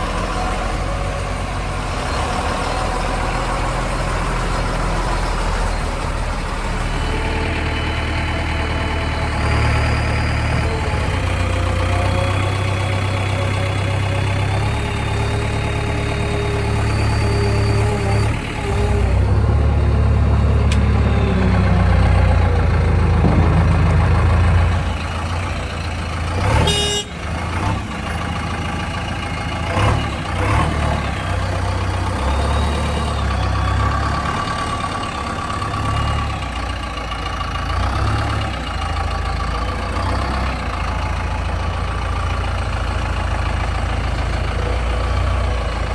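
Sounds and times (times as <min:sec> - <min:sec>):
diesel engine under hydraulic load: 0:00.0 - 0:45.9.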